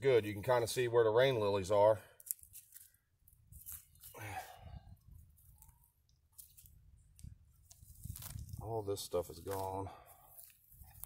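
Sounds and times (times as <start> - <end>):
weeds being pulled from soil: 2.1 - 11.0.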